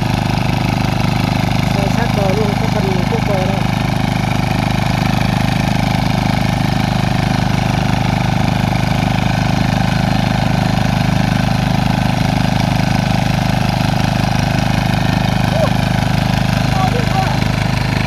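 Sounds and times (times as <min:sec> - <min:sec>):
small diesel engine throbbing: 0:00.0 - 0:18.0.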